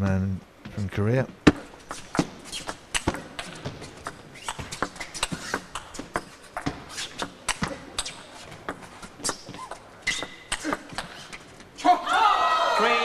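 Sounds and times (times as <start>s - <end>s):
shoes shuffling on court: 0.6s - 11.8s.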